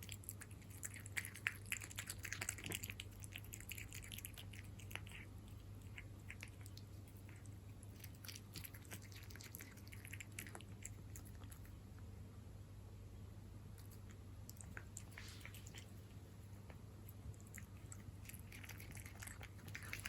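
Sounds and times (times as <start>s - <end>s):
cat chewing wet food: 0.0s - 12.1s, 13.7s - 20.0s.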